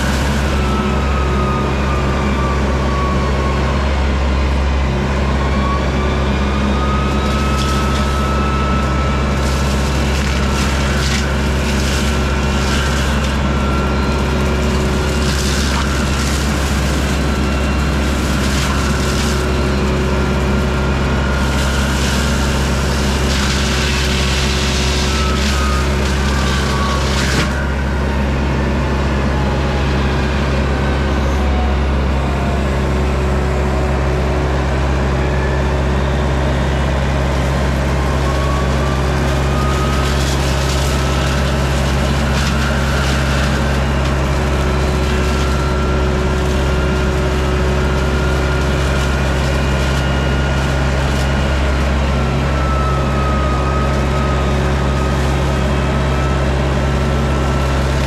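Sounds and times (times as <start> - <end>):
excavator diesel engine: 0.0 - 58.0
mulcher shredding brush: 0.0 - 58.0.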